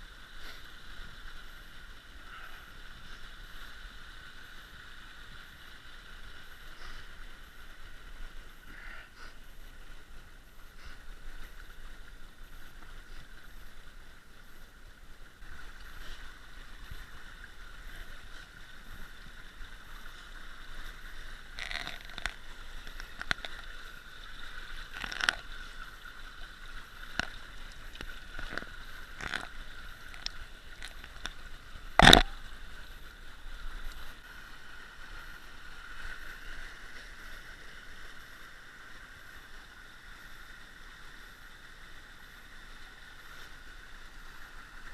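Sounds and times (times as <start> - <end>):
creek water running over rocks: 0.0 - 44.9.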